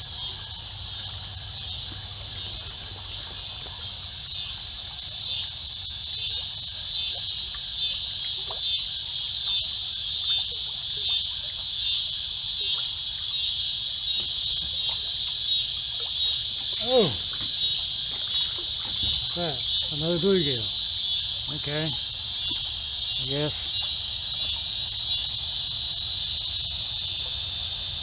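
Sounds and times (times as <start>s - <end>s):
insects chorus droning: 0.0s - 28.0s.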